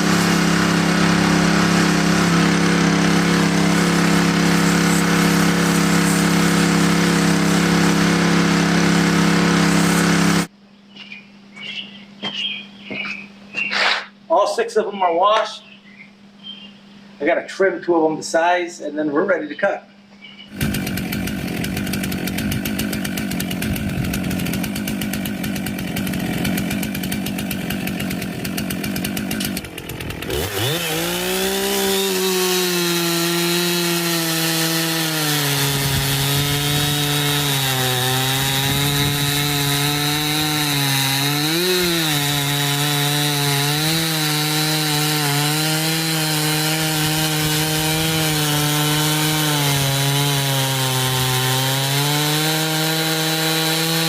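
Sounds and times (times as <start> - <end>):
chainsaw idling and revving: 0.0 - 10.5, 20.5 - 54.0.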